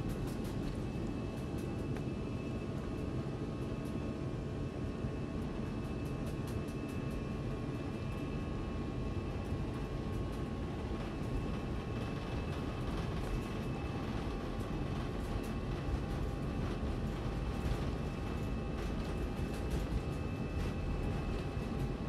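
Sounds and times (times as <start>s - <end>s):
airliner engine rumble: 0.0s - 22.0s.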